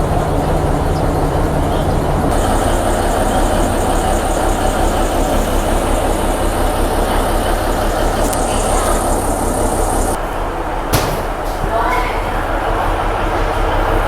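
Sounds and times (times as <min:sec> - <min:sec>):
locomotive engine idling: 0:00.0 - 0:14.0.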